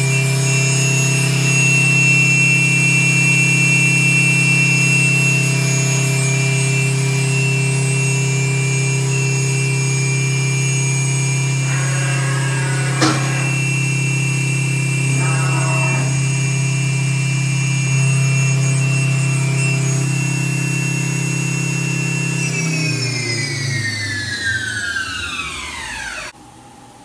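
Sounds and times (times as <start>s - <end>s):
machine spindle humming and whining: 0.0s - 26.4s.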